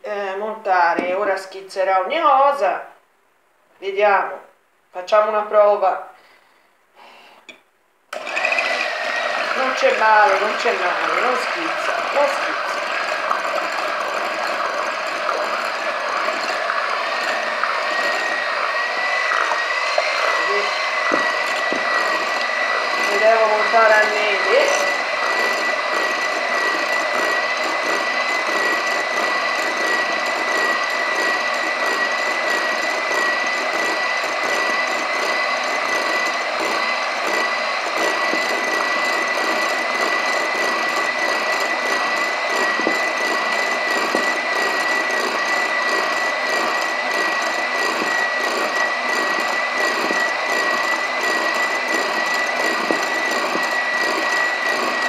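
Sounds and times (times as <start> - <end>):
electric hand mixer whining: 8.1 - 55.0.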